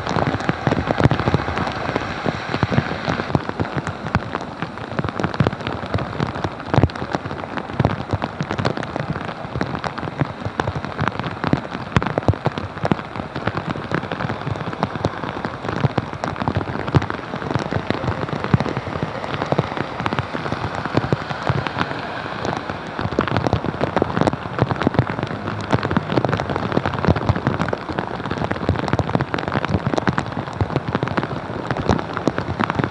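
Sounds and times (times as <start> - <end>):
heavy rain on flooded street: 0.0 - 32.9.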